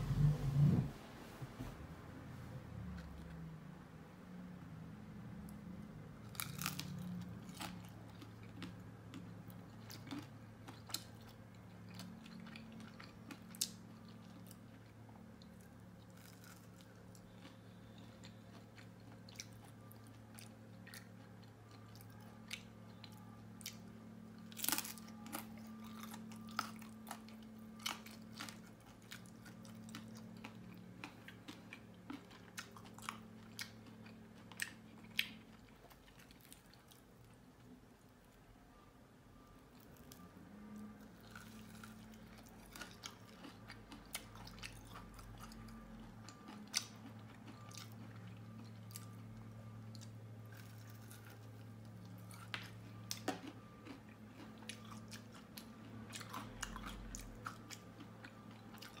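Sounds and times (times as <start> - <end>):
steady low hum: 0.0 - 59.0
person chewing crunchy food: 6.2 - 37.7, 39.7 - 59.0.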